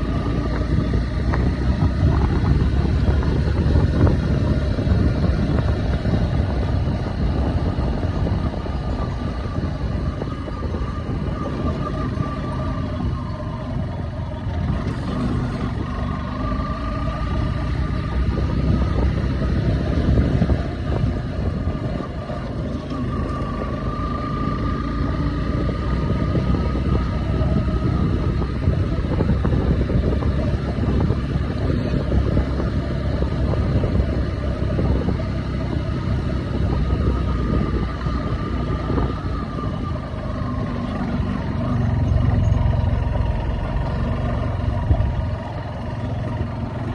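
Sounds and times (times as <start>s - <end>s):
bike running noise: 0.0s - 46.9s
wind rush: 0.0s - 46.9s.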